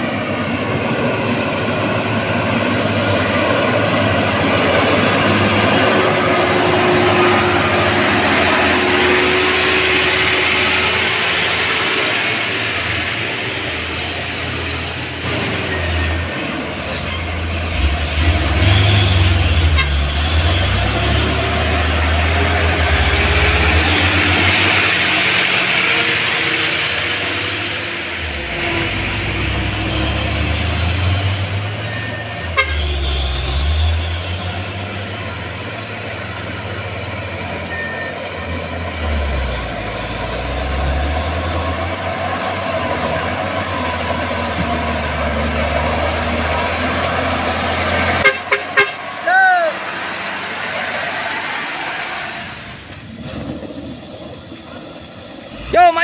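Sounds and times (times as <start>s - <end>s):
truck engines rumbling: 0.0s - 56.0s.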